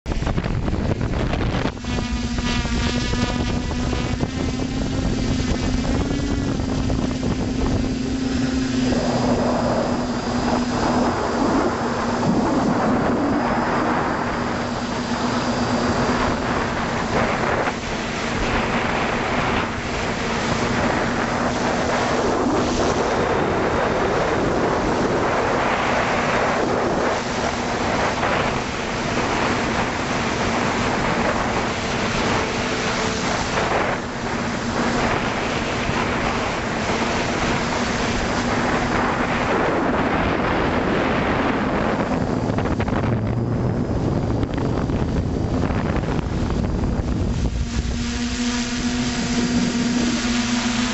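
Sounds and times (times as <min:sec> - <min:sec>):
wind rush on microphone: 0:00.0 - 0:50.9
model aircraft motor hum: 0:00.1 - 0:50.9.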